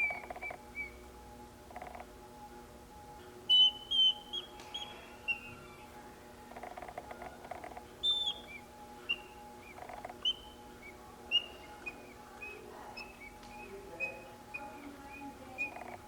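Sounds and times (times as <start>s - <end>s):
mechanical bird chirps: 0.0s - 1.0s, 1.7s - 2.1s, 3.5s - 16.0s.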